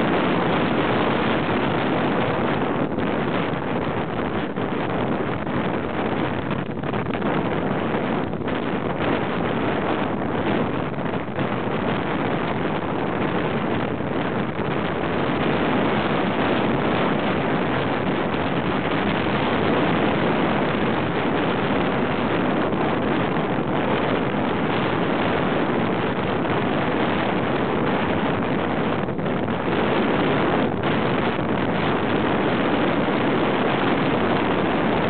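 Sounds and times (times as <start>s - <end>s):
surf on a beach: 0.0s - 35.0s
wind rushing: 0.0s - 35.0s.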